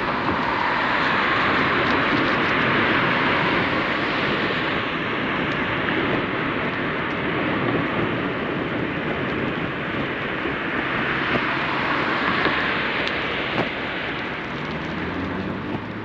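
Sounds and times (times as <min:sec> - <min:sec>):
road traffic rushing: 0:00.0 - 0:16.0
wind: 0:00.0 - 0:16.0.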